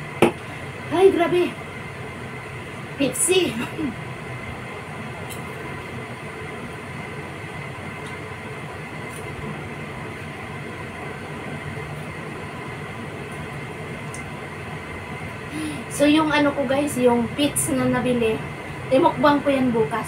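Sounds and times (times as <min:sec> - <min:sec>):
appliance motor hum and whirr: 0:00.0 - 0:20.0
faint whine: 0:00.0 - 0:20.0.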